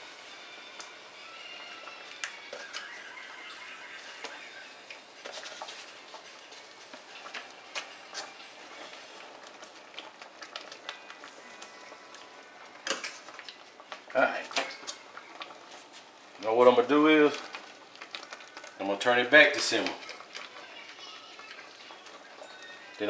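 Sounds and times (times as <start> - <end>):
gravy bubbling in a pan: 0.0 - 23.0.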